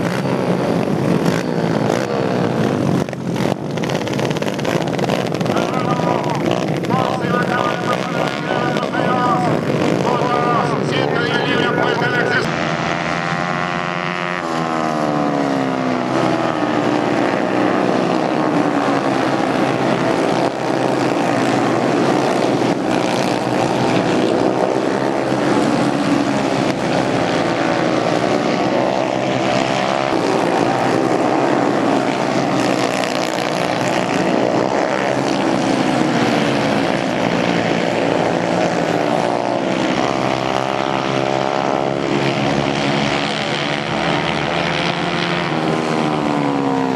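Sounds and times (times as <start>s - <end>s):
racing motorcycle engines revving: 0.0s - 46.9s.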